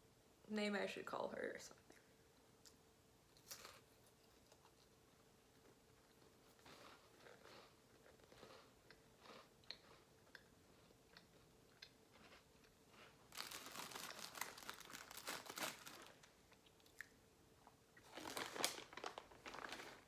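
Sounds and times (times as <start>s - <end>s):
cracker crunching being chewed: 2.6s - 20.0s.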